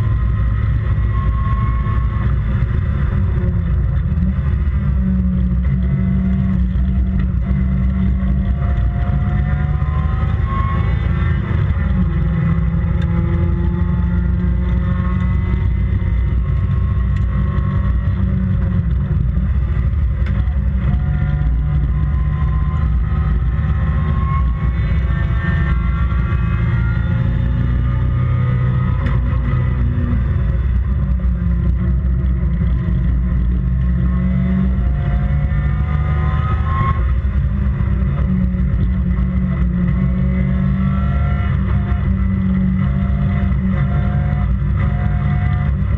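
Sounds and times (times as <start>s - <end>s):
race car engine accelerating: 0.0s - 45.9s.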